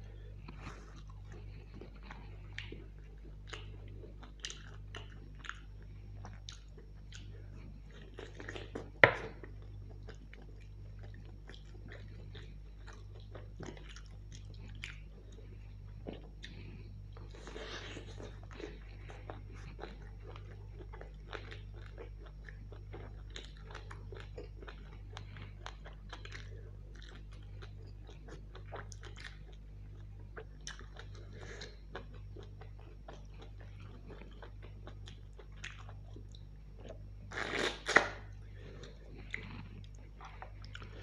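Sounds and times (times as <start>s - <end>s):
wet chewing and mouth smacks: 0.4s - 38.2s.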